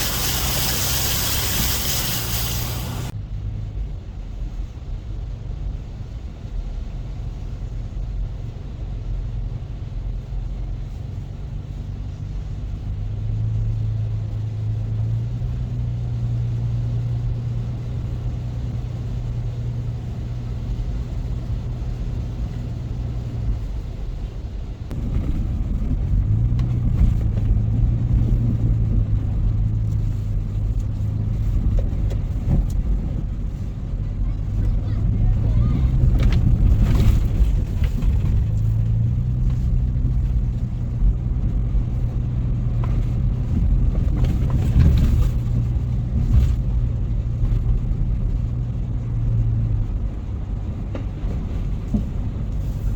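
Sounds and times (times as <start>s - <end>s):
vehicle engine humming: 0.0s - 52.9s.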